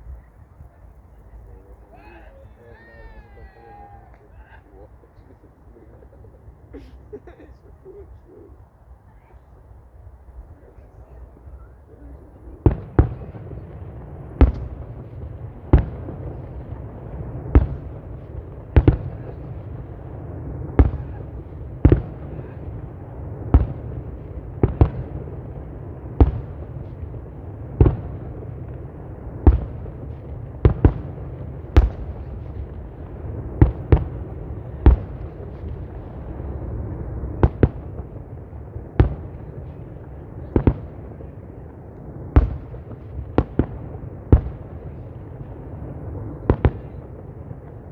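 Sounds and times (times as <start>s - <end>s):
fireworks bangs with echo: 0.0s - 8.0s, 10.0s - 47.9s.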